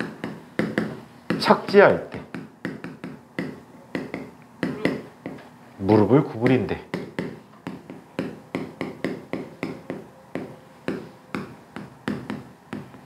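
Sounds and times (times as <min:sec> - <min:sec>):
chalk tapping on blackboard: 0:00.0 - 0:05.5, 0:06.4 - 0:13.0.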